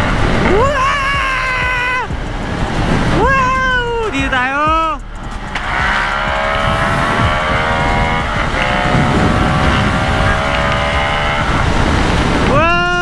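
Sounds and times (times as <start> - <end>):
motorcycle engine running: 0.0 - 13.0
wind rumble on microphone: 0.0 - 13.0.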